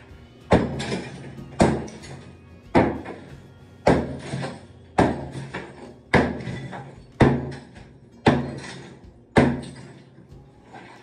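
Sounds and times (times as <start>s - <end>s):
hammer striking tile wall: 0.4s - 11.0s.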